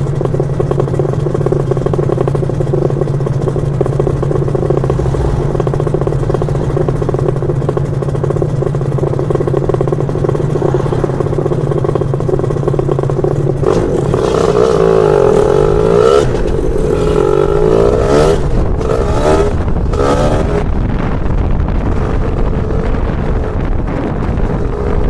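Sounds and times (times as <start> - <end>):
scooter engine revving: 0.0 - 25.0.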